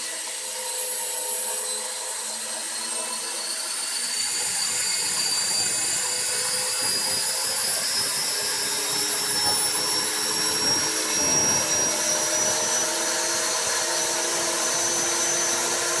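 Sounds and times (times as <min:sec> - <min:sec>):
helicopter rotor and drive noise: 0:00.0 - 0:16.0
model helicopter high-pitched whine: 0:00.0 - 0:16.0.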